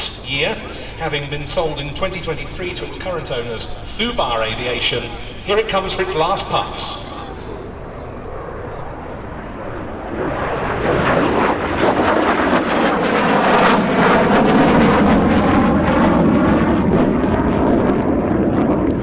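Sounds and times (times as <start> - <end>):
jet fighter passing low: 0.0 - 19.0.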